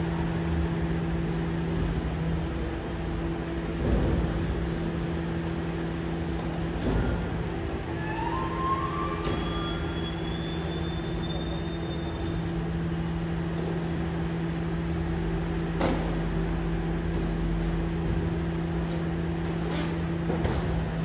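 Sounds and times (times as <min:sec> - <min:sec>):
garbage truck engine humming: 0:00.0 - 0:21.0.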